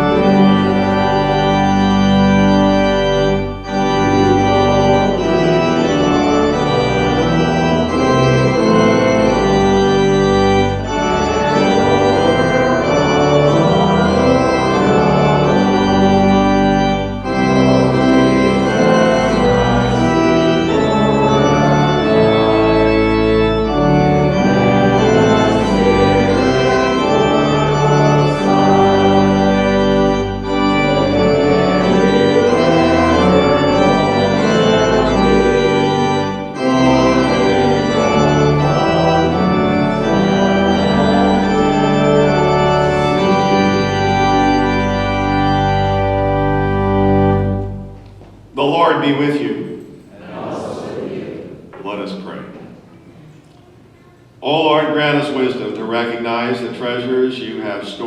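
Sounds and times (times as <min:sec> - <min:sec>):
organ playing held chords: 0:00.0 - 0:58.0.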